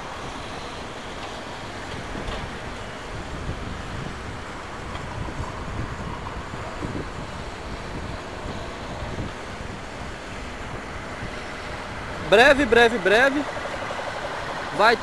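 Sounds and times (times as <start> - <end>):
low rumble of road traffic: 0.0 - 15.0
wind buffeting microphone: 0.0 - 15.0.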